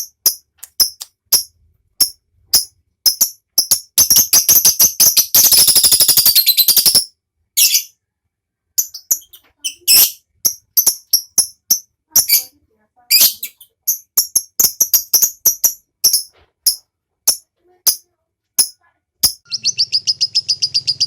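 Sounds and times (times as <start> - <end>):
lovebird chirping and trilling: 0.0 - 8.0, 8.8 - 18.0, 18.6 - 21.0.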